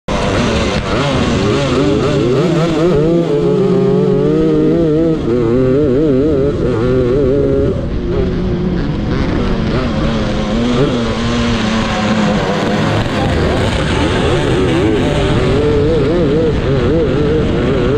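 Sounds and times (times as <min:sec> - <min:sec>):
kart engines accelerating: 0:00.1 - 0:17.9.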